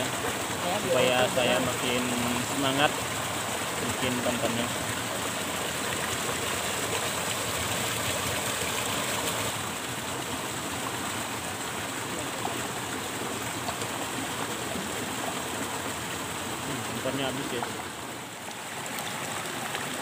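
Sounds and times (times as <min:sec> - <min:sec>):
stream burbling over stones: 0:00.0 - 0:20.0.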